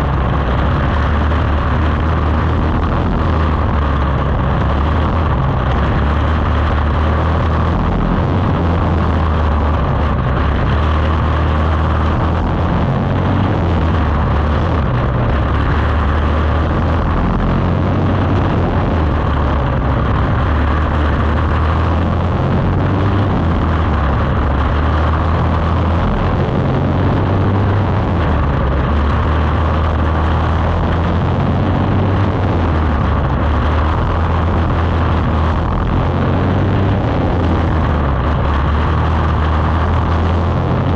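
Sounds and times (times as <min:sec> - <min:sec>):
small race car engine running: 0:00.0 - 0:40.9.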